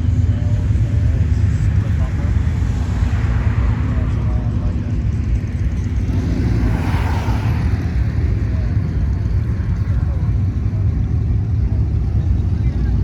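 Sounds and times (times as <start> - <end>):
car engines rumbling: 0.0 - 13.0
passing car: 0.0 - 13.0.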